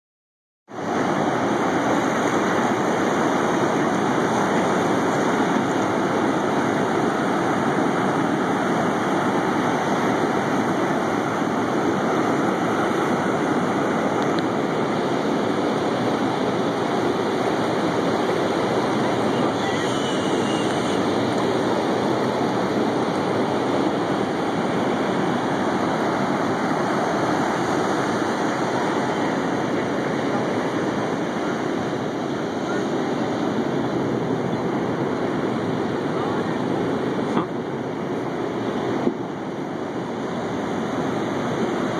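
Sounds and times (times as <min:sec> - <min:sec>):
ocean surf over rocks: 0:00.7 - 0:41.9.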